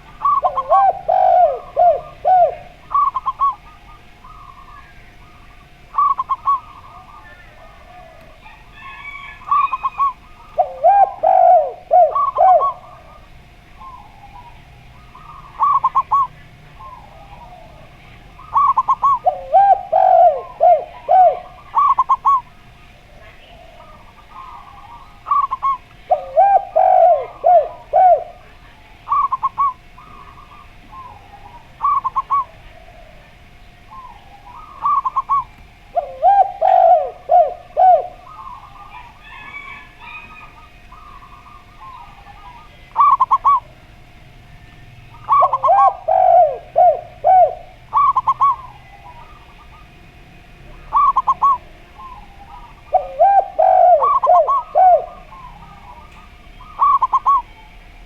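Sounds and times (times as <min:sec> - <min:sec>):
dove low cooing: 0:00.0 - 0:58.0.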